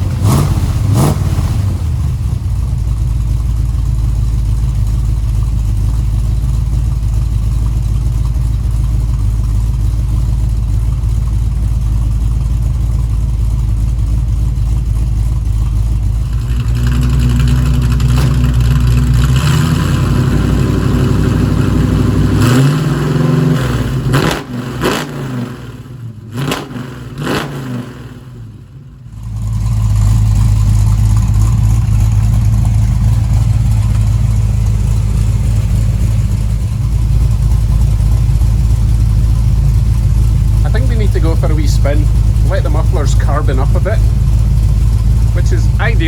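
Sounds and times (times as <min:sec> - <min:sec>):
car engine revving and rumbling: 0:00.0 - 0:46.0.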